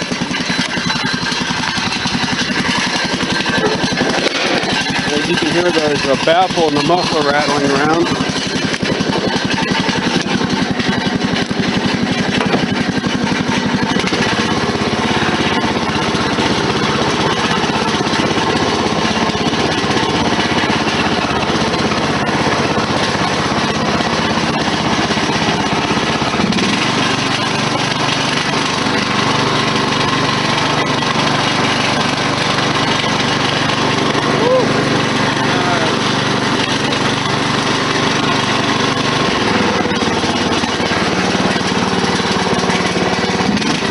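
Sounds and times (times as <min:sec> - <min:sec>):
lawn mower engine running: 0:00.0 - 0:43.9
muffler baffle rattling: 0:00.0 - 0:43.9.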